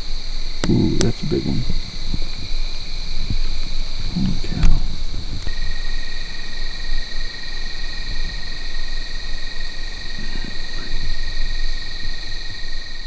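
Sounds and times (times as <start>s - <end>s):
crickets trilling: 0.0s - 13.0s
low rumble: 0.0s - 13.0s
thin steady insect tone: 0.0s - 13.0s.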